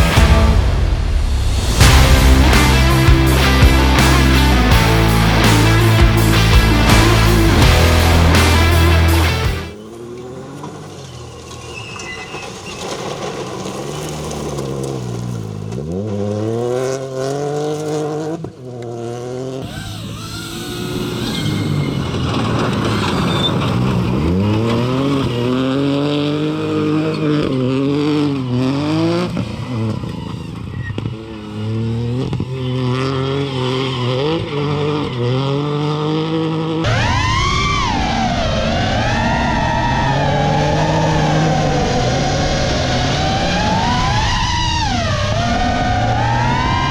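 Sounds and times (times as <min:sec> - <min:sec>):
rally car engine revving hard: 0:00.0 - 0:46.9.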